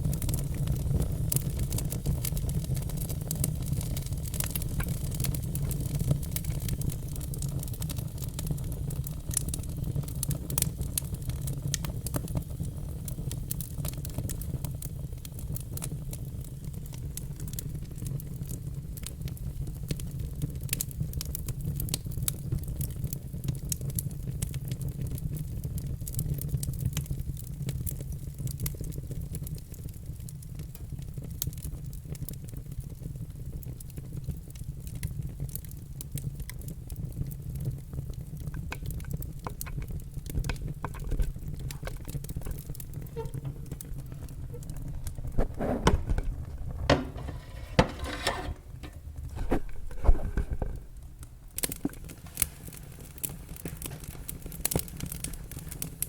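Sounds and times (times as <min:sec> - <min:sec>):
log fire crackling: 0:00.0 - 0:56.0.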